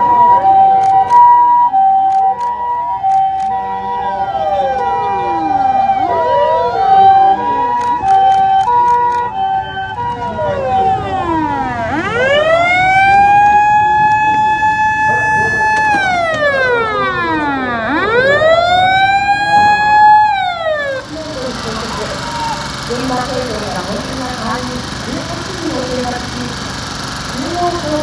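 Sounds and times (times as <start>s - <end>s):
two-tone hi-lo siren: 0.0s - 26.7s
siren winding up: 0.0s - 28.0s
wailing sirens: 0.0s - 28.0s.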